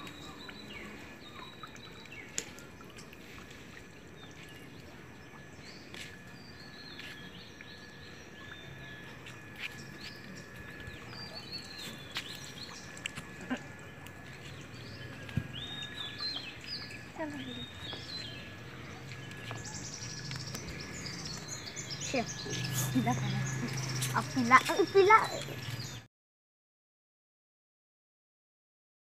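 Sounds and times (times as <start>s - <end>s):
steady background noise: 0.0s - 26.0s
birds chirping: 0.0s - 26.1s.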